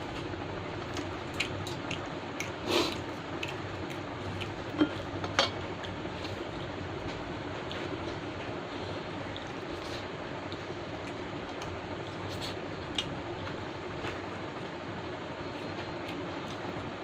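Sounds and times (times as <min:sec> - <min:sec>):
steady low hum: 0:00.0 - 0:17.0
chewing and wet mouth sounds: 0:00.8 - 0:14.8, 0:15.4 - 0:17.0.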